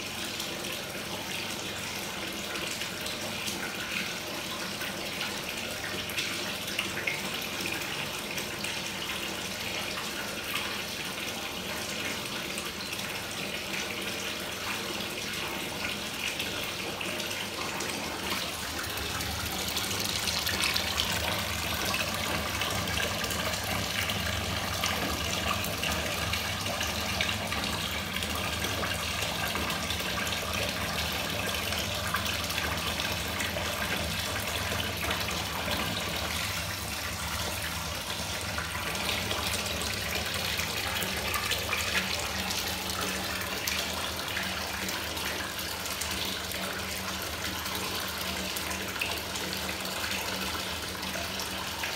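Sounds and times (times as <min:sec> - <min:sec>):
tap water running into bathtub: 0:00.0 - 0:51.9.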